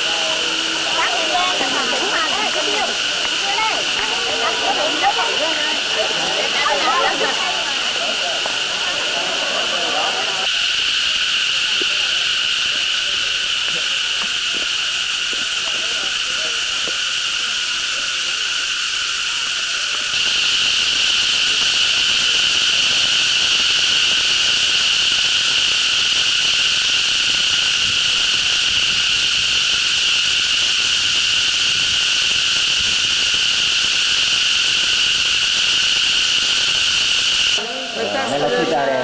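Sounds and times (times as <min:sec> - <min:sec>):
cicadas buzzing: 0:00.0 - 0:39.0.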